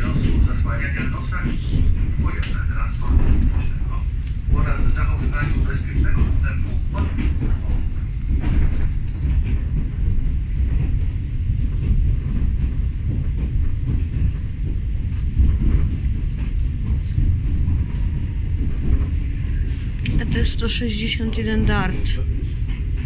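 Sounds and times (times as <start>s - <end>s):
rumble of wheels on track: 0.0s - 23.0s.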